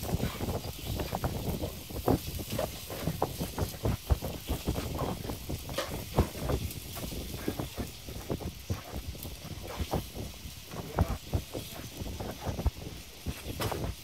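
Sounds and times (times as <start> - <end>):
batter sizzling: 0.0 - 14.0
wooden picks clicking on griddle: 0.0 - 14.0.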